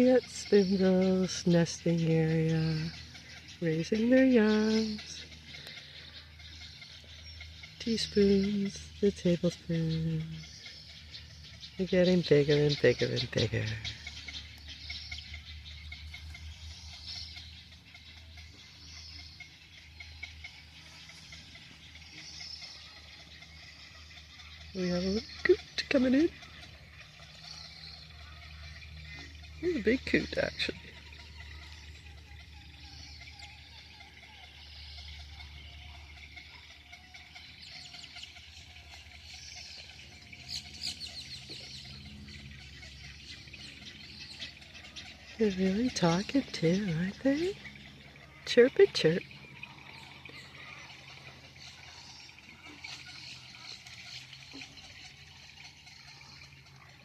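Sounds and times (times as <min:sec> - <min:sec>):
distant bird chirps: 0:00.0 - 0:57.0.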